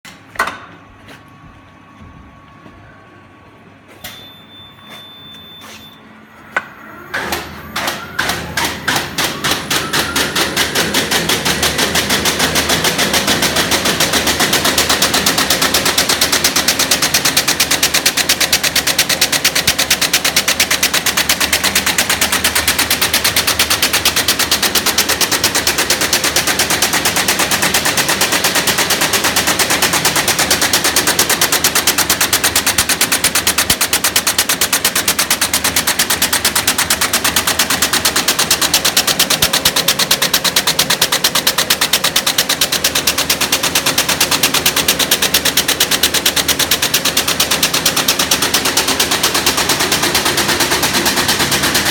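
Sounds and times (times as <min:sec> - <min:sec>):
machine knocking into rapid clatter: 0:07.1 - 0:51.9.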